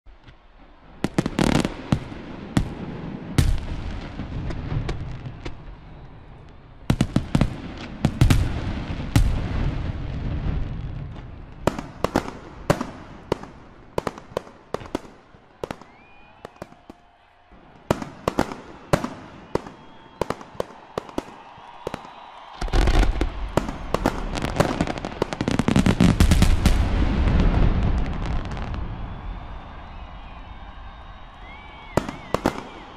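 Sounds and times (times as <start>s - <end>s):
fireworks bangs and crackling: 0.1s - 32.9s.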